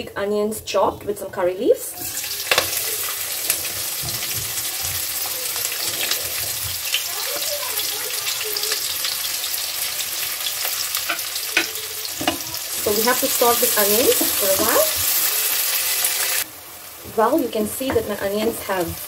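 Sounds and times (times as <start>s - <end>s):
onions sizzling in hot oil: 1.9s - 19.0s.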